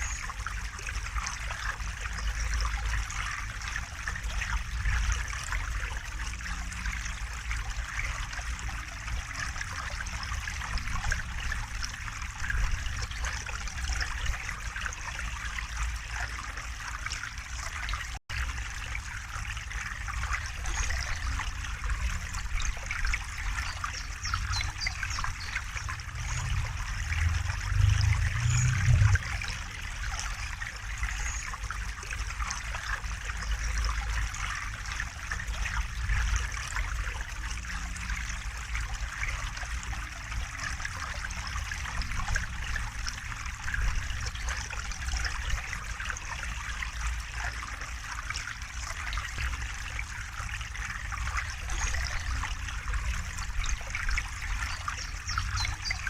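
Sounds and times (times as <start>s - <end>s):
river water babbling: 0.0s - 56.0s.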